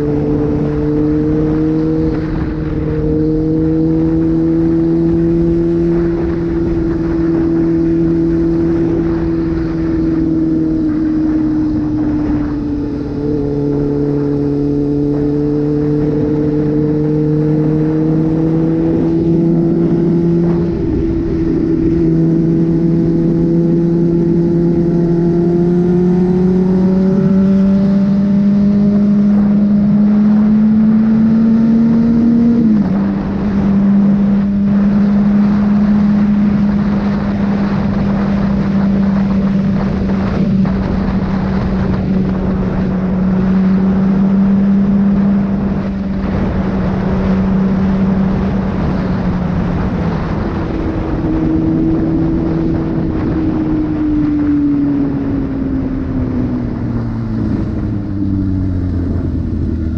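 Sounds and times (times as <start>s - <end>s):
motorcycle engine running: 0.0s - 59.9s
wind rushing: 0.0s - 59.9s.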